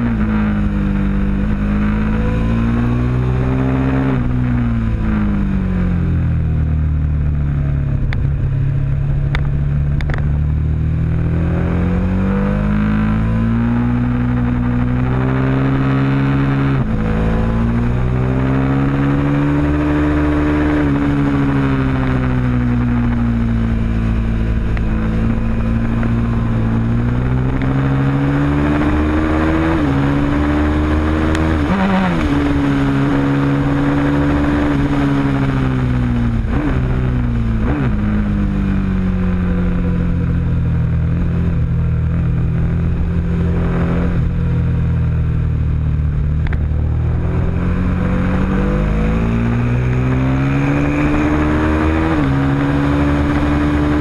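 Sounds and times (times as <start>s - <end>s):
motorcycle engine revving with gear shifts: 0.0s - 54.0s.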